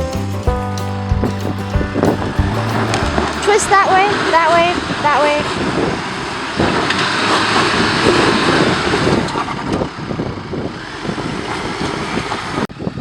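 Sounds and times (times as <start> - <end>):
car engine running under load: 1.2 - 13.0.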